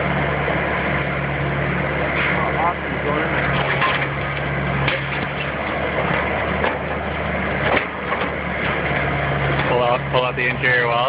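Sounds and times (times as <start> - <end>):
heavy machine engine running: 0.0 - 11.0.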